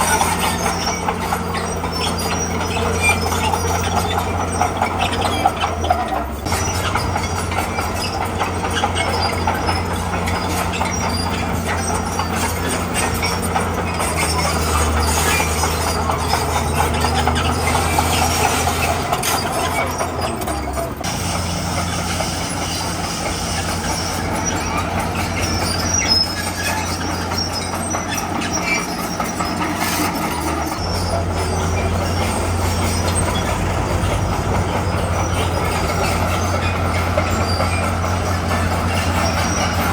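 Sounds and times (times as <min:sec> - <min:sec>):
bulldozer diesel engine: 0:00.0 - 0:39.9
steel tracks clattering: 0:00.0 - 0:39.9.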